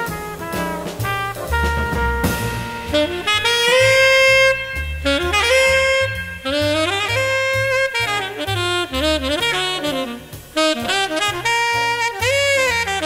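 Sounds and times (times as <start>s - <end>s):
bass line: 0.0s - 13.0s
jazz horn melody: 0.0s - 13.0s.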